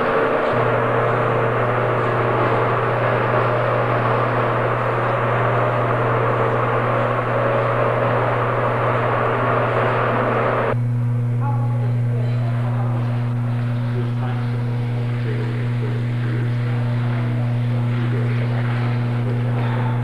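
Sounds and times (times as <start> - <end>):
farm machinery running: 0.0 - 10.8, 13.0 - 20.0
constant low hum: 0.0 - 20.0.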